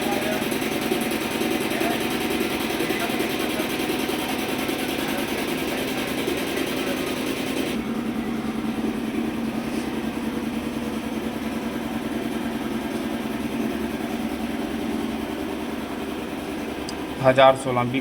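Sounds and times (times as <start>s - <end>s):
steady machine drone: 0.0s - 18.0s.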